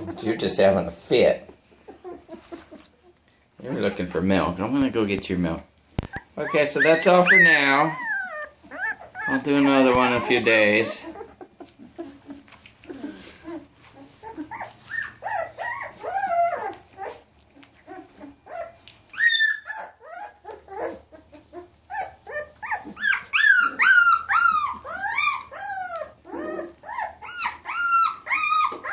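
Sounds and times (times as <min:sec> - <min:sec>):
puppies whining and squealing: 0:00.0 - 0:04.5, 0:05.9 - 0:28.9.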